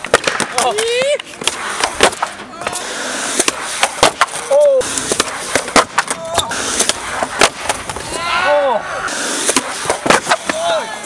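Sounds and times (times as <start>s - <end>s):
skateboard clacking on concrete: 0.0s - 8.1s, 9.1s - 10.8s
skateboard wheels rolling on concrete: 0.0s - 11.0s.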